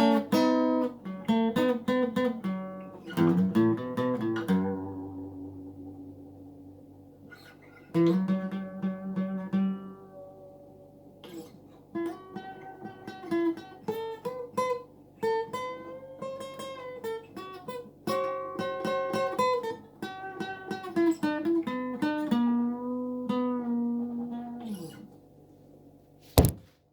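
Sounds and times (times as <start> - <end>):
acoustic guitar plucked notes: 0.0 - 25.1.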